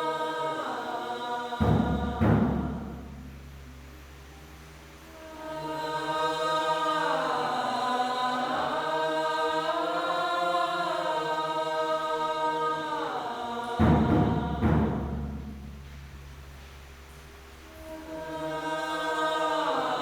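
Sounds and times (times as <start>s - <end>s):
chanted vocal drone: 0.0s - 15.8s, 17.7s - 20.0s.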